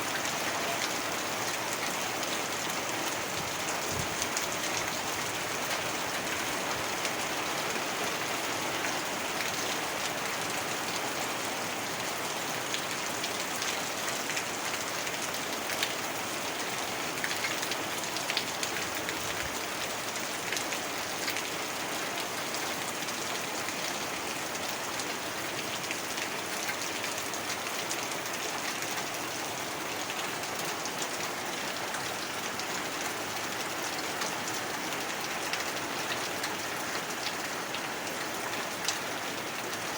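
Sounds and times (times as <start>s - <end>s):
raindrops ticking on a surface: 0.1s - 39.9s.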